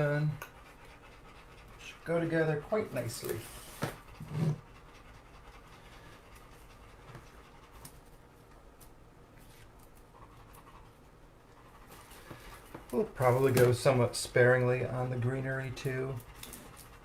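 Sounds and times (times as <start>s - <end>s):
dog panting: 0.0s - 8.4s, 9.6s - 17.0s.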